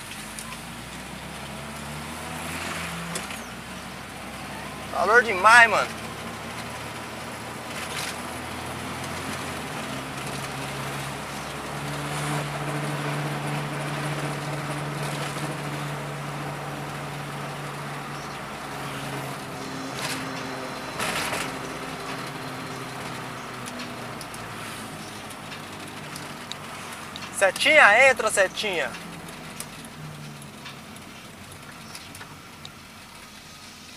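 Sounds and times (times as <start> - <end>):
car engine running from inside cabin: 0.0 - 33.9.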